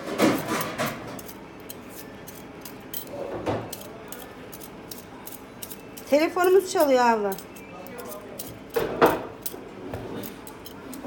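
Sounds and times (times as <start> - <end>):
peeler scraping potato skin: 0.0 - 11.0.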